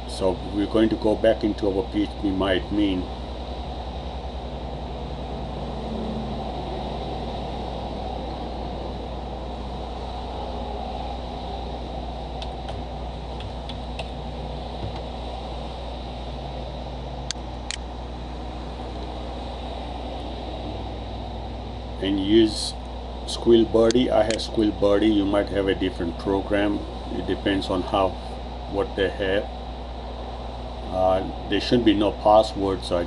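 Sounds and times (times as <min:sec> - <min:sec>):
computer fan hum and hiss: 0:00.0 - 0:33.0.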